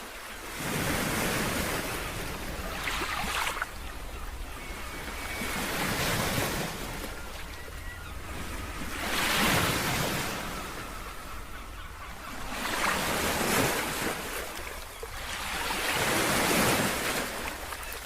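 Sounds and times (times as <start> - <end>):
waves breaking and washing in: 0.0 - 18.0.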